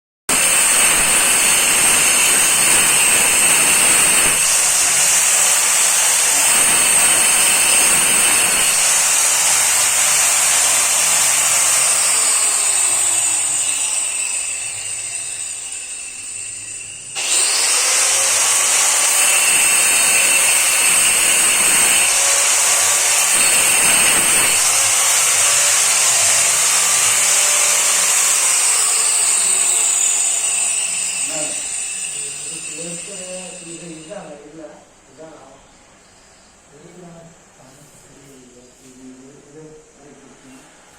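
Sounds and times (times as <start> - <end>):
electric power tool whining: 0.3 - 34.4.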